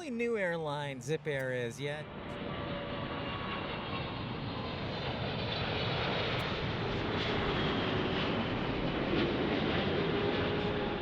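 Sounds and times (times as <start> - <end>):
jet engines rushing: 0.3 - 11.0.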